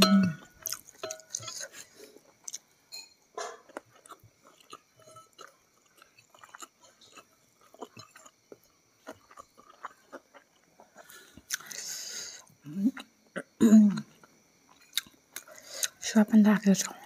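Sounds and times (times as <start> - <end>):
person chewing food: 0.2 - 2.7, 3.3 - 16.0.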